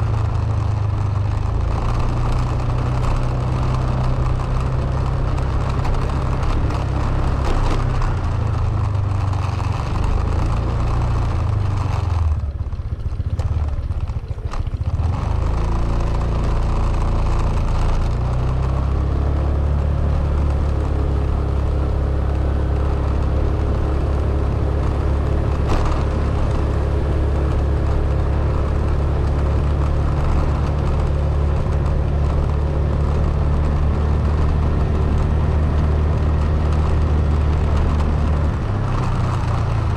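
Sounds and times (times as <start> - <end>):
car engine driving: 0.0 - 39.9.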